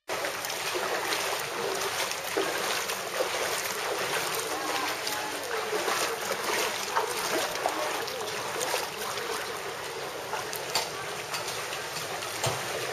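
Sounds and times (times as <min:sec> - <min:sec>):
feet splashing through floodwater: 0:00.0 - 0:12.9.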